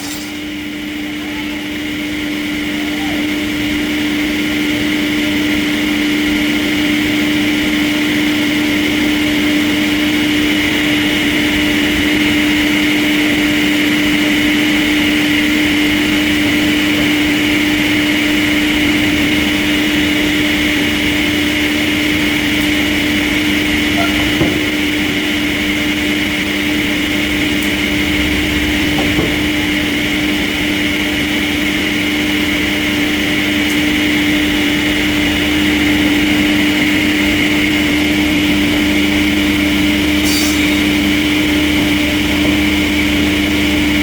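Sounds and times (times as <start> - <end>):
high even whine: 0.0 - 44.0
sawmill machinery hum: 0.0 - 44.0.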